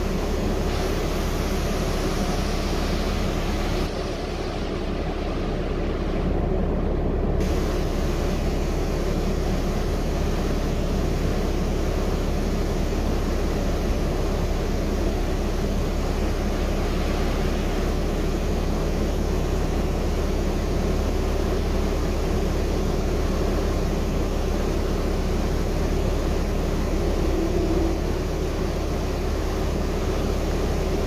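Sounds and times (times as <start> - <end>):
bus interior ride rumble: 0.0 - 31.0.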